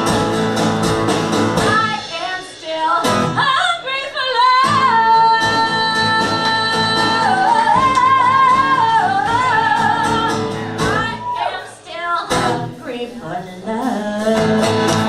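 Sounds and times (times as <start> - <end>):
woman singing: 1.6 - 15.0.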